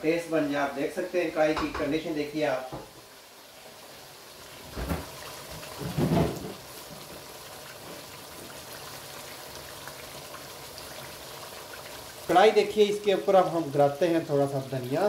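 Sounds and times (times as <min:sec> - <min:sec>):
curry sizzling and bubbling in a wok: 0:00.0 - 0:15.0.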